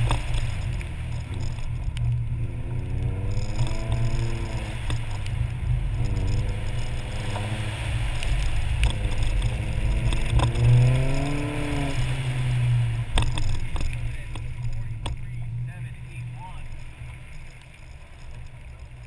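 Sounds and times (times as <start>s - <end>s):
car engine revving: 0.0s - 19.0s
wet road noise: 0.0s - 19.0s.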